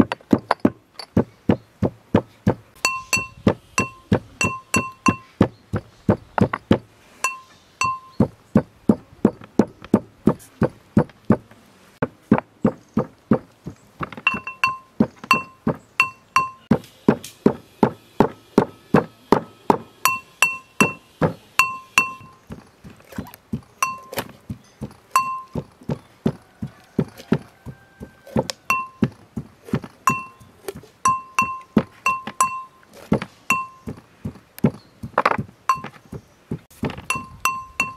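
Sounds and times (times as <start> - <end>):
brass pestle pounding in mortar: 0.0 - 11.4, 12.0 - 37.9.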